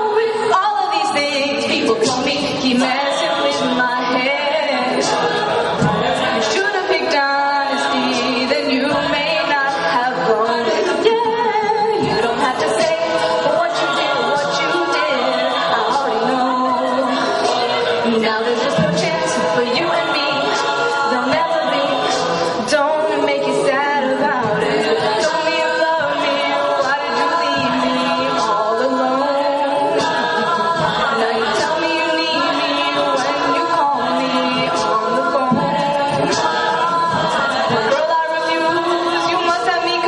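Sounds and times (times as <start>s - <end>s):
a cappella group singing in harmony: 0.0s - 40.0s.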